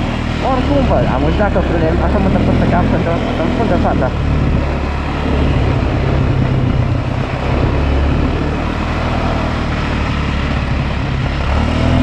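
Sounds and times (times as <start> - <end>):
quad bike engine under load: 0.0 - 12.0.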